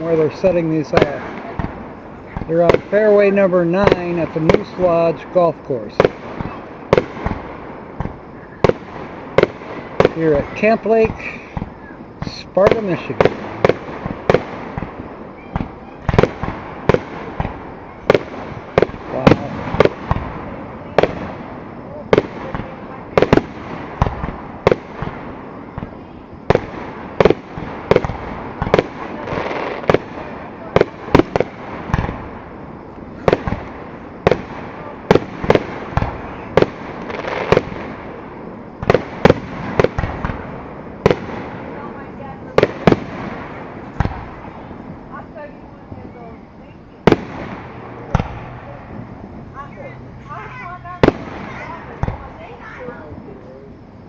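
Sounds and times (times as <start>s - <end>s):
fireworks bangs: 0.0s - 54.0s
steady rumbling: 0.0s - 54.0s.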